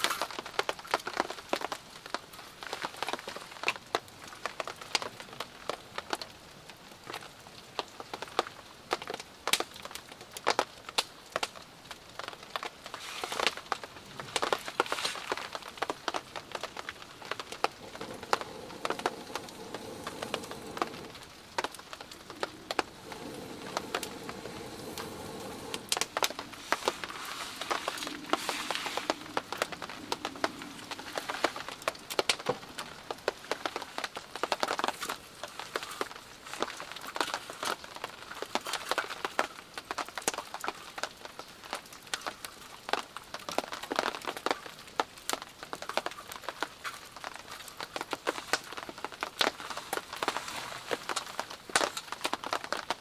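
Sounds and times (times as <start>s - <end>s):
campfire crackling and popping: 0.0s - 53.0s
light rain hissing: 0.0s - 53.0s.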